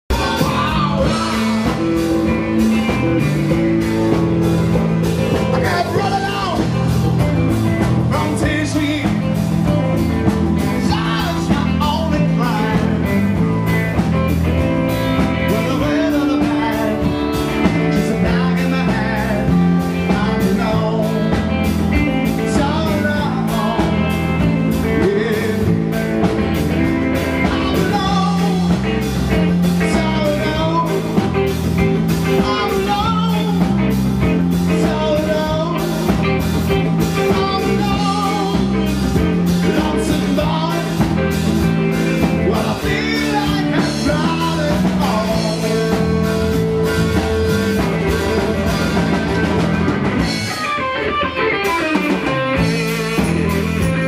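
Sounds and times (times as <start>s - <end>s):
drums steady beat: 0.1s - 54.0s
electric guitar: 0.1s - 54.0s.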